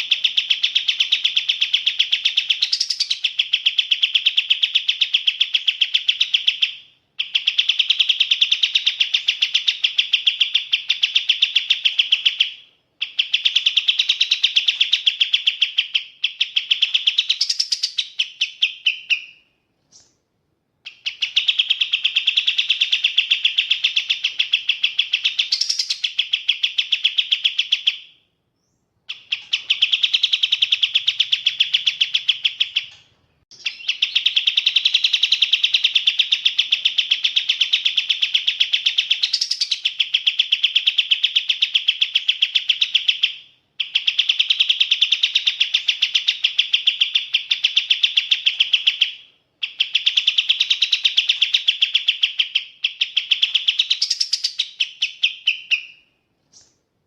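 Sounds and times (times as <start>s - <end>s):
songbird chattering chirps: 0.0s - 20.2s, 20.8s - 28.0s, 28.6s - 56.8s.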